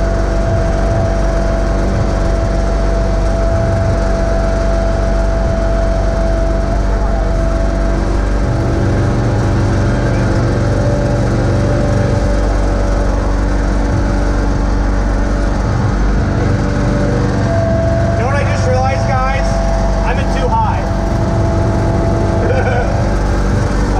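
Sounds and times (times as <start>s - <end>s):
garden tractor engine running: 0.0s - 23.9s
thin steady whine: 0.0s - 23.9s.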